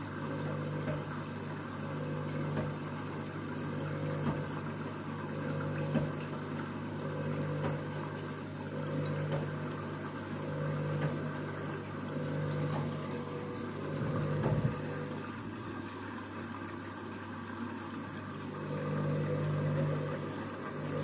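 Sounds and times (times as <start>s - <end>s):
washing machine humming: 0.0s - 21.0s
water running into washing machine: 0.0s - 21.0s.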